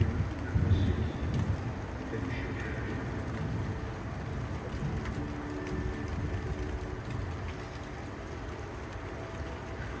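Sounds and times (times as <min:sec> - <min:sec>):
low thunder rumble: 0:00.0 - 0:10.0.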